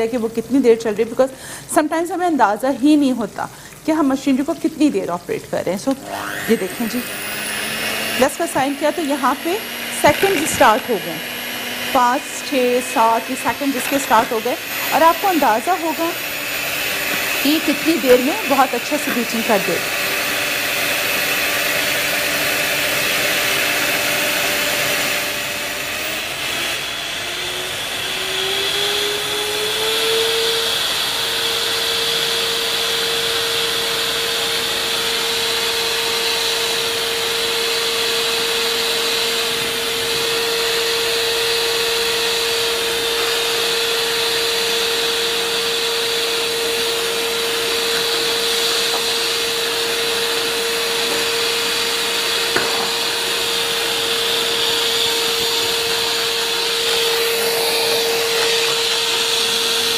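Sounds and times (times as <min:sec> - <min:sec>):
electric hand mixer whining: 0:05.7 - 0:59.9.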